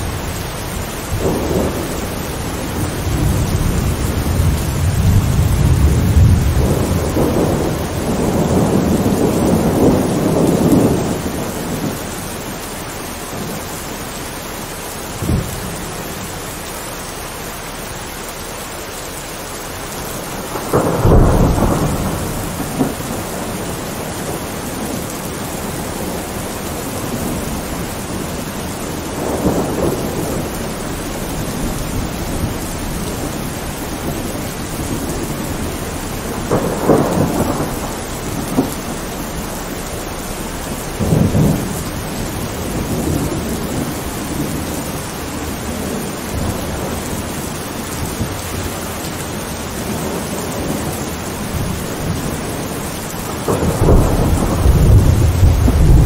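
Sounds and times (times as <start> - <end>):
thunder rumbling: 0.0 - 18.1, 19.4 - 56.0
heavy rain: 0.0 - 56.0.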